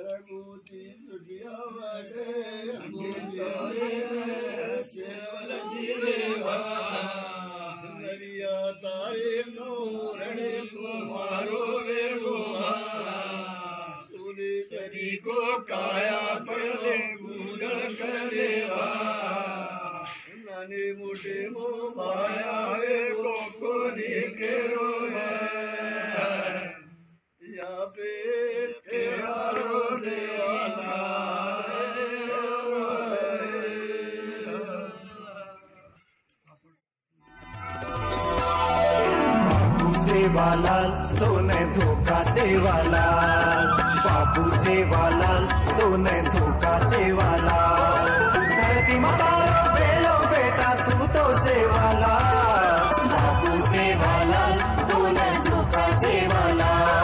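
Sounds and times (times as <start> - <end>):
men chanting a prayer: 0.0 - 35.6, 39.7 - 57.0.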